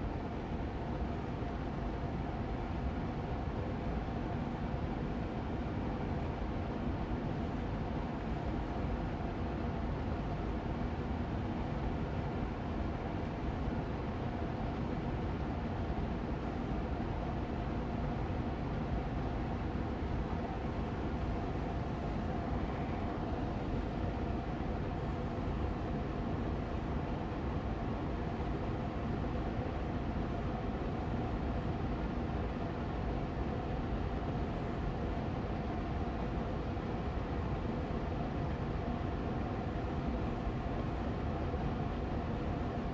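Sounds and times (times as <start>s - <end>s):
air purifier fan running: 0.0s - 42.9s.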